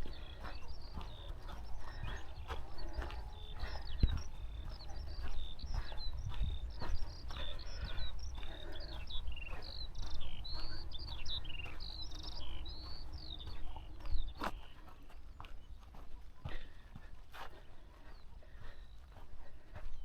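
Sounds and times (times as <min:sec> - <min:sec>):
skylark song: 0:00.0 - 0:20.0.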